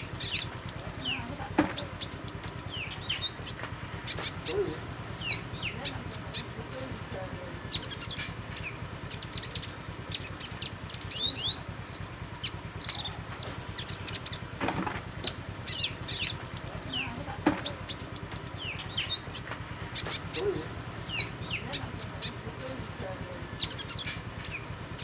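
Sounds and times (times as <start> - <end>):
small songbird twittering: 0.0 - 6.6, 7.6 - 14.6, 15.2 - 22.8, 23.4 - 25.0.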